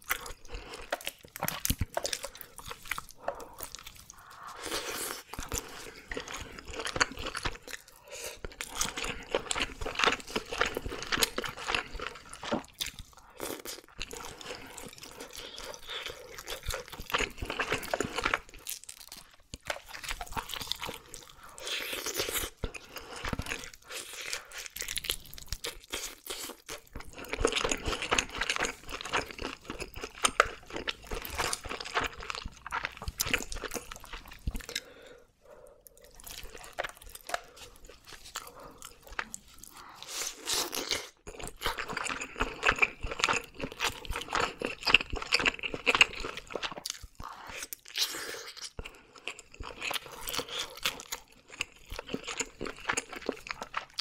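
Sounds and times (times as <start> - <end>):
chewing wet mouth sounds: 0.0 - 54.0.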